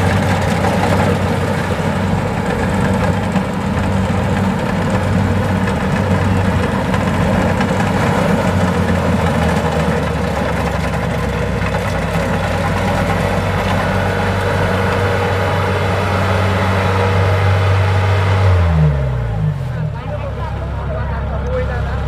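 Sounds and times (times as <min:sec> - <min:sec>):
diesel engine with mechanical clatter: 0:00.0 - 0:22.0.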